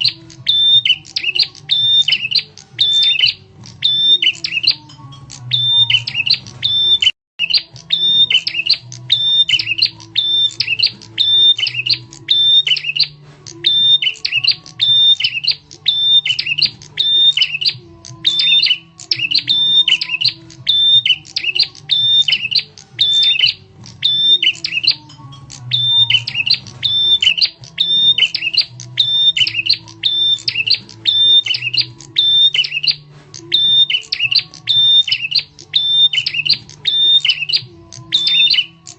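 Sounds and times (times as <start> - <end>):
high flicking bird call: 0.0 - 38.9.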